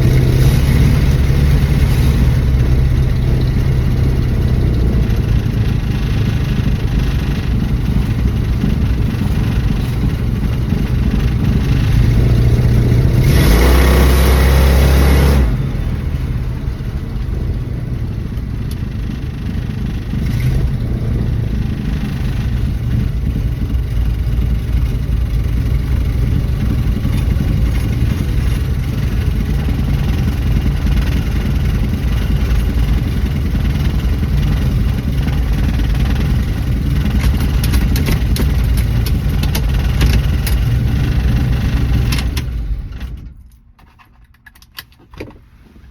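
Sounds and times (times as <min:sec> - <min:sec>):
car engine running and revving: 0:00.0 - 0:43.5.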